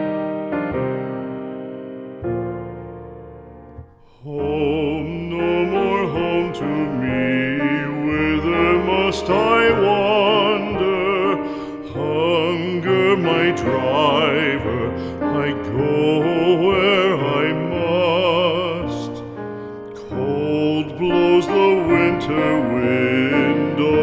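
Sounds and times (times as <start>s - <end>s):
piano accompaniment: 0.0s - 24.0s
piano chord: 0.0s - 24.0s
person singing with vibrato: 4.0s - 24.0s.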